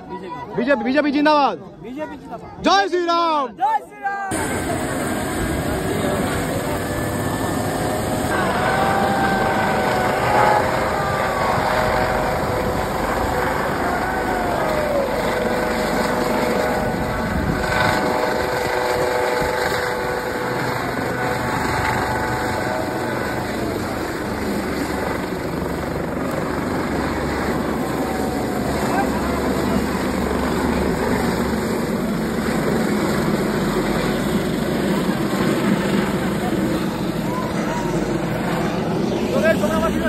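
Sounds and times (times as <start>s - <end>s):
crowd voices: 0.0s - 40.0s
helicopter taking off: 4.3s - 40.0s
turbine whine: 4.3s - 40.0s.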